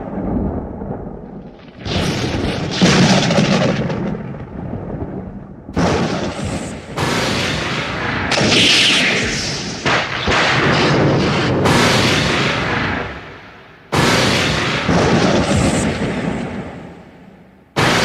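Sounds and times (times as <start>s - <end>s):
lightning cracks: 0.0s - 18.0s
thunder rumbling: 0.0s - 18.0s.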